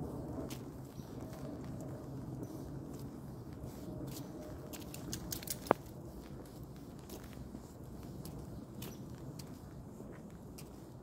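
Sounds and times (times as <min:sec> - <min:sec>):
footsteps on slushy path: 0:00.0 - 0:11.0.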